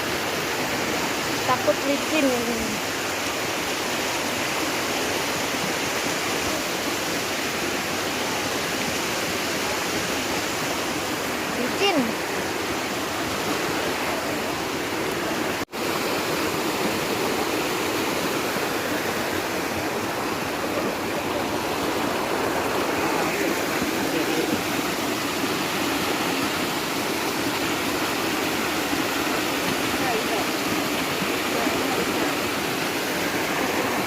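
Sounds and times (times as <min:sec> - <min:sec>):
stream and waterfall rushing: 0:00.0 - 0:34.0.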